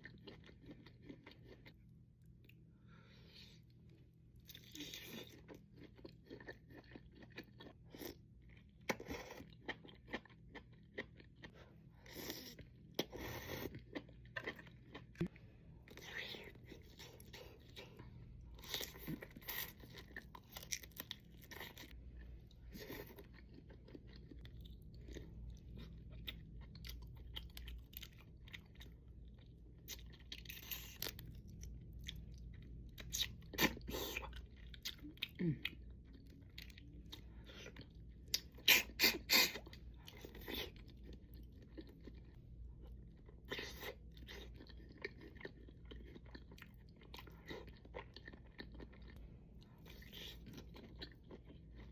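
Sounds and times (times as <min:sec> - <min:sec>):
person chewing and crunching: 0:00.0 - 0:02.7, 0:03.4 - 0:51.9.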